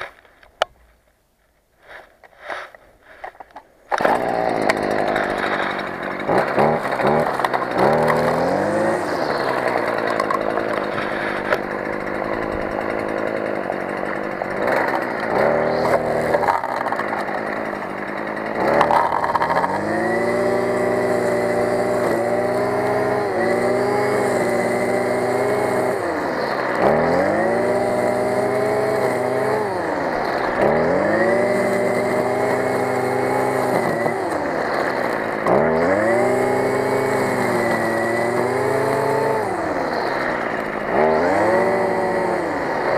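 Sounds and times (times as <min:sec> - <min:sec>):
brush cutter engine at high revs: 0:01.8 - 0:42.9.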